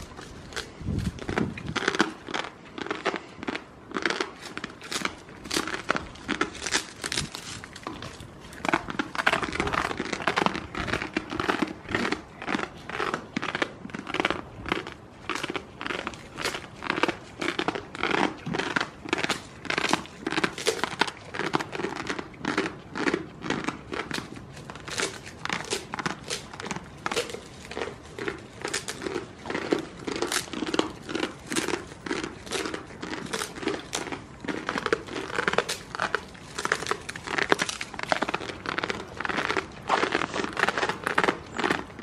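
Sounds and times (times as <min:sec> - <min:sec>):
goats chewing dry fodder: 0:00.0 - 0:42.0.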